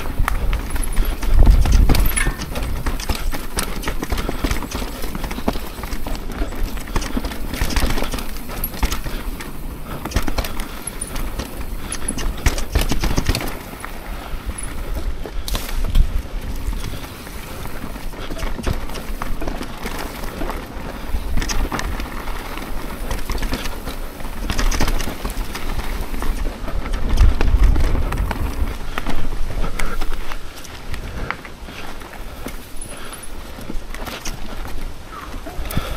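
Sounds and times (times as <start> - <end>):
bike rattling over bumps: 0.0 - 35.9.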